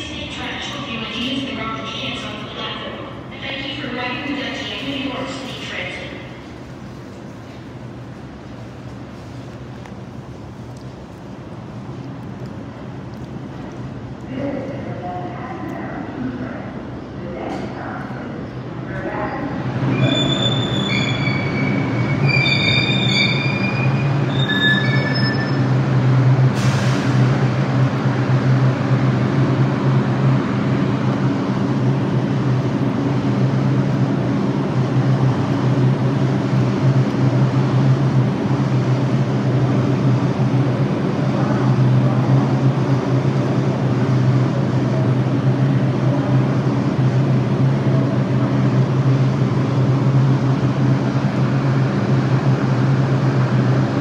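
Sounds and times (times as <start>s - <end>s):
subway train running: 0.0s - 54.0s.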